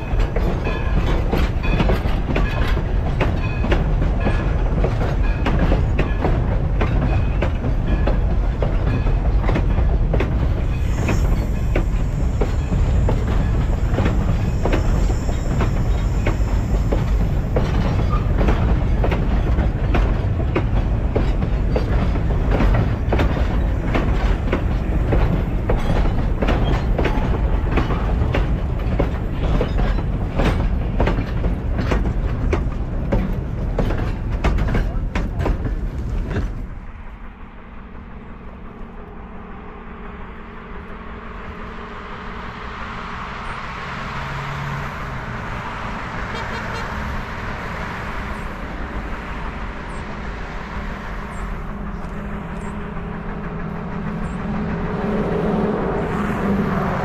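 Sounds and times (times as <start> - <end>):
train wheels clicking over rail joints: 0.0 - 37.0, 42.2 - 57.0
distant steam locomotive working: 0.0 - 57.0.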